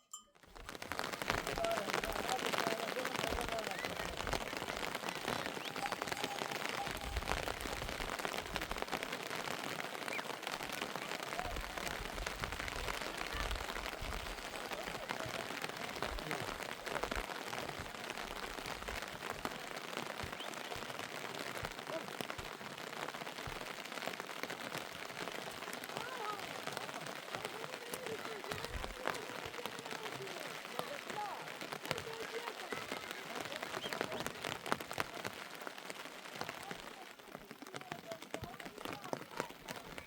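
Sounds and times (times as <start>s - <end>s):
heavy rain falling: 0.5s - 40.0s.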